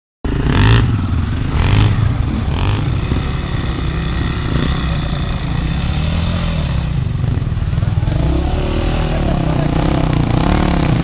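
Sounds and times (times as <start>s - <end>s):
motorcycle engine running: 0.3s - 11.0s.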